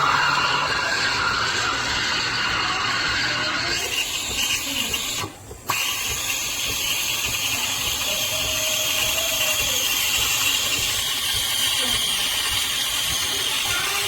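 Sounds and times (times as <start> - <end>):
espresso machine hissing: 0.0 - 14.0.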